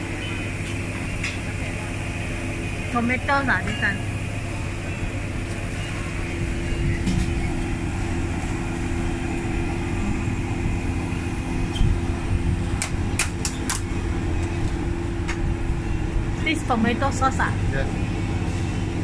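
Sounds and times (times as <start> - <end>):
gas burner roaring: 0.0 - 19.0
steady hum: 0.0 - 19.0.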